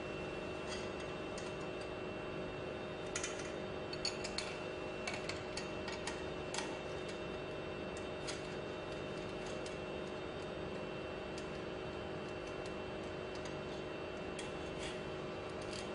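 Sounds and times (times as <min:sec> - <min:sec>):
faint steady hum: 0:00.0 - 0:15.9.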